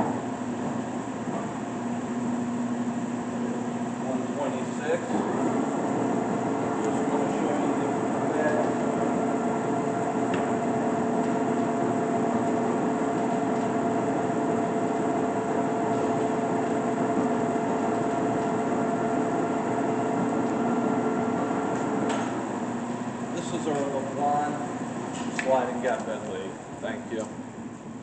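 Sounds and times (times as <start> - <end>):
lathe humming with gear tones: 0.0 - 28.0.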